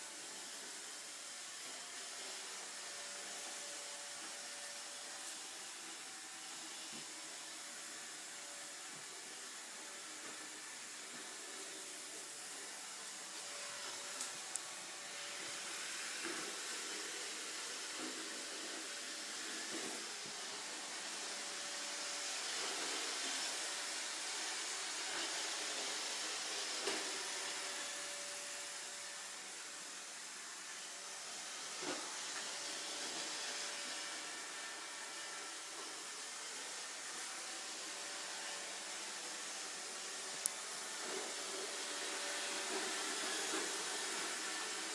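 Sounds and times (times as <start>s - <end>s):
robot vacuum whirring: 0.2s - 44.9s.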